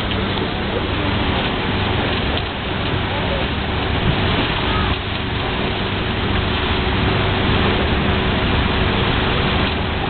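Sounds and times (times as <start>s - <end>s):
boat engine running: 0.0s - 10.0s
water rushing along hull: 0.0s - 10.0s.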